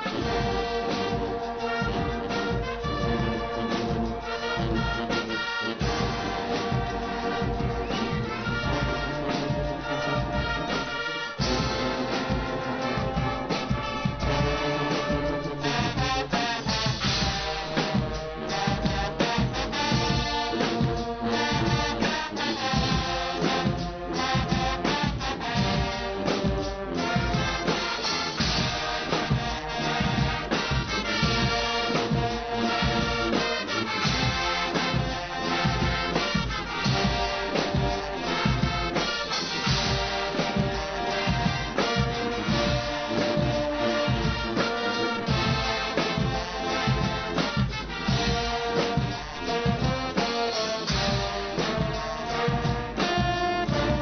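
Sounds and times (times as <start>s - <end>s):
brass band playing: 0.0s - 54.0s
steady drum beat: 0.0s - 54.0s.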